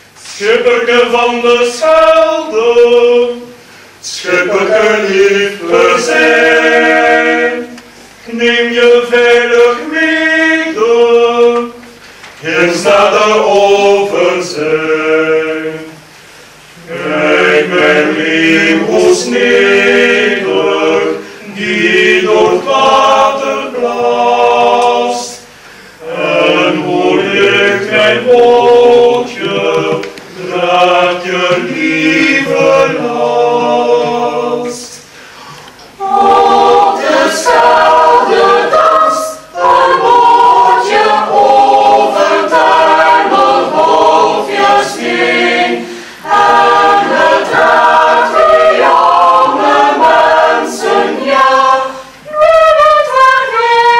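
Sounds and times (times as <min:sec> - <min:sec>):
mixed choir singing: 0:00.0 - 0:16.1, 0:16.7 - 0:53.9.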